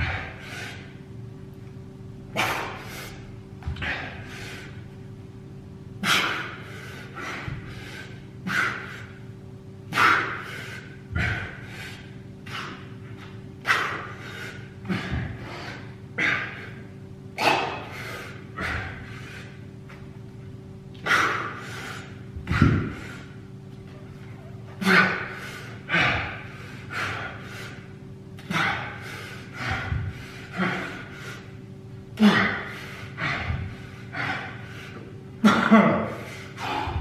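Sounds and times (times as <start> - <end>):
man breathing hard: 0.0 - 1.3, 2.3 - 5.2, 6.0 - 20.3, 20.9 - 37.0.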